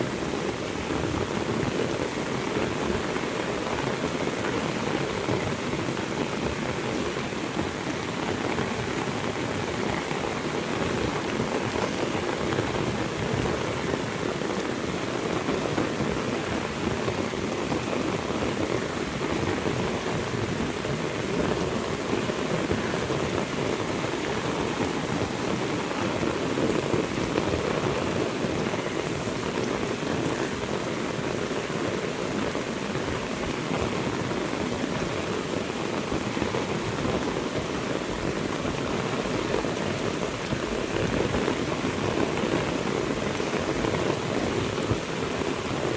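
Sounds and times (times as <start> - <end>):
heavy rain: 0.0 - 45.9.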